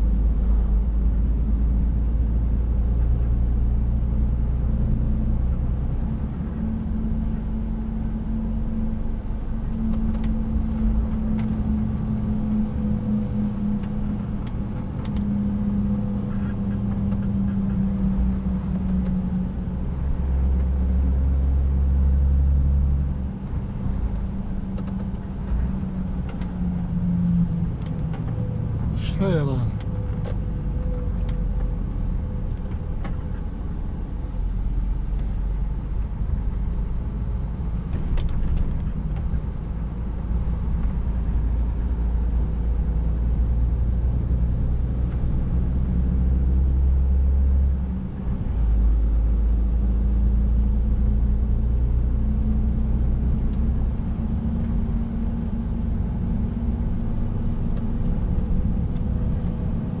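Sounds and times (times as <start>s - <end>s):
road noise: 0.0s - 60.0s
truck diesel engine drone: 0.0s - 60.0s.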